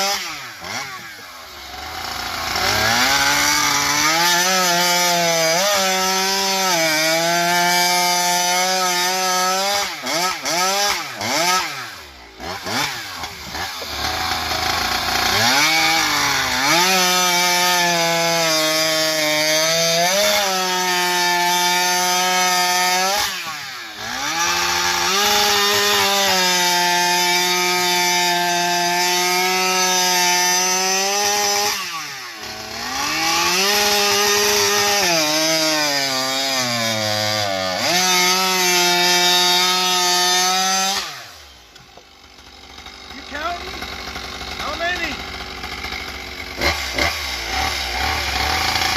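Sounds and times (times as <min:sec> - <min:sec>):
chainsaw cutting log: 0:00.0 - 0:48.9.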